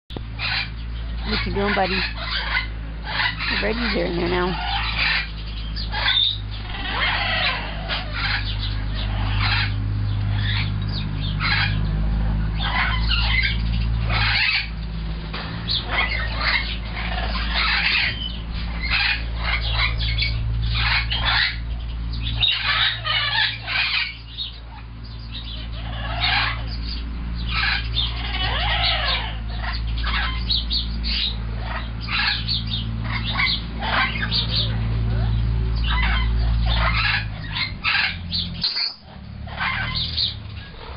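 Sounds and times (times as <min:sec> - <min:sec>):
cockatoos chirping and squawking: 0:00.1 - 0:40.9
steady low hum: 0:00.1 - 0:40.9.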